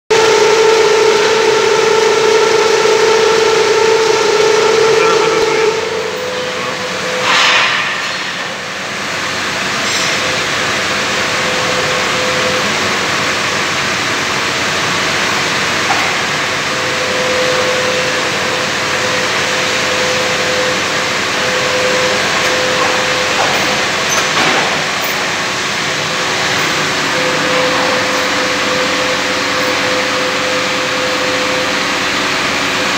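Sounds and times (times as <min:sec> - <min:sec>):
held machine tone: 0:00.1 - 0:07.8, 0:09.3 - 0:32.9.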